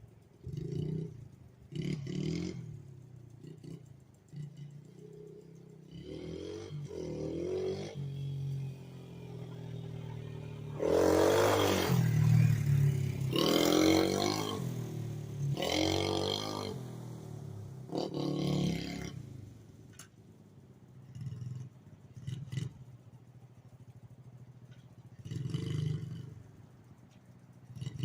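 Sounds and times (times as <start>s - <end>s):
pit bike engine idling and revving: 0.0s - 28.0s.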